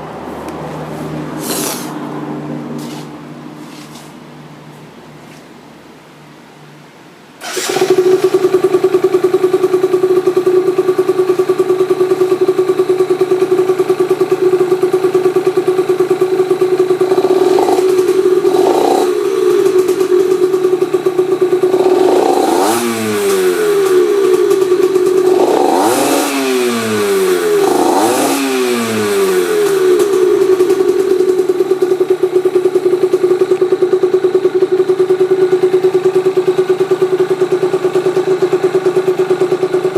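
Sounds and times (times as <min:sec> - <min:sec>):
engine throttle blips: 0:07.4 - 0:39.9
two-stroke engine idling: 0:07.4 - 0:39.9.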